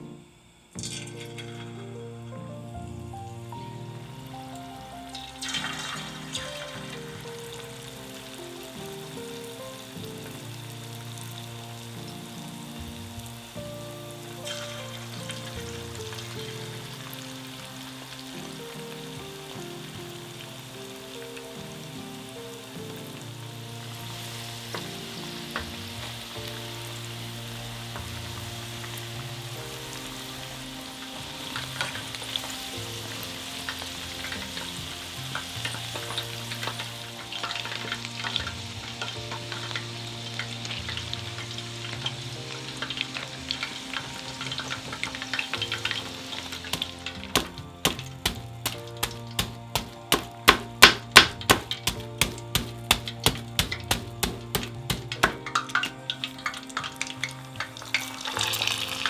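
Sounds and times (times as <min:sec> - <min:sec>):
soft background music: 0:00.0 - 0:59.0
food sizzling in hot oil: 0:00.2 - 0:59.0.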